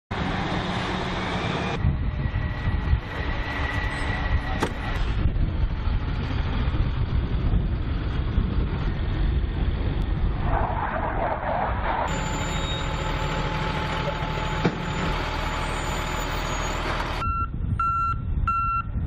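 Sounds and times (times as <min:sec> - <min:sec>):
diesel trucks rumbling: 0:00.1 - 0:19.0.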